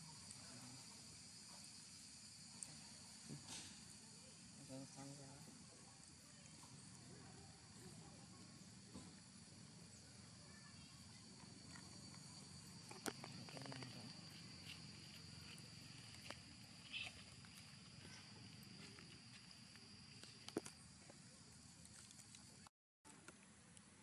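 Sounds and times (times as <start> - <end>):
faint high insect drone: 0.0 - 24.0.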